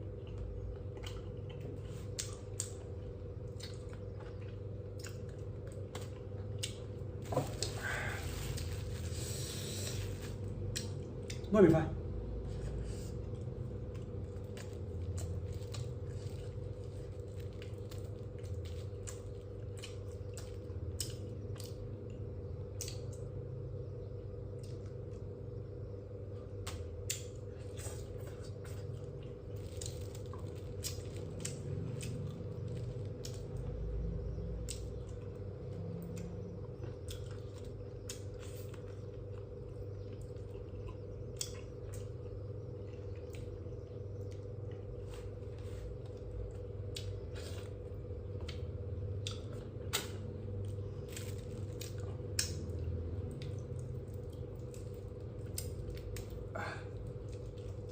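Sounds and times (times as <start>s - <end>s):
person chewing: 0.0s - 11.5s, 12.5s - 23.4s, 26.5s - 33.9s, 34.6s - 57.9s
steady background hum: 0.0s - 57.9s.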